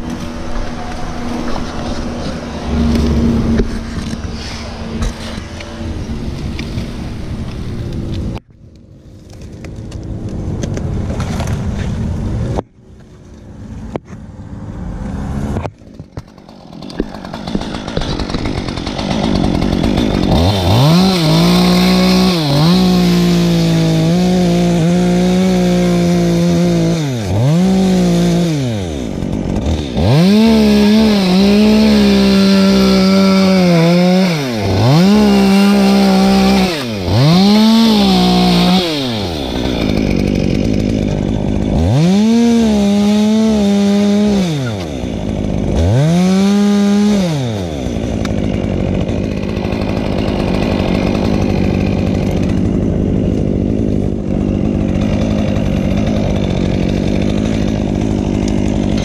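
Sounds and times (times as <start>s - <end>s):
chainsaw revving and idling: 0.0s - 8.4s, 14.7s - 59.0s.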